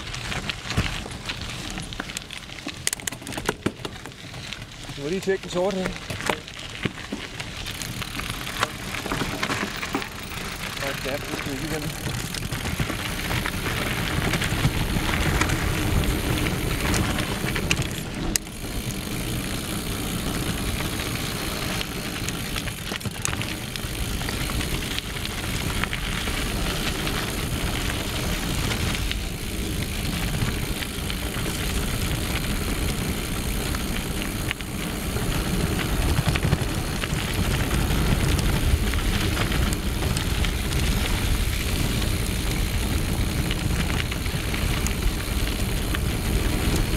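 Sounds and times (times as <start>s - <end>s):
bike knocks and rattles: 0.0s - 46.9s
bike tyres rumbling on gravel: 0.0s - 46.9s.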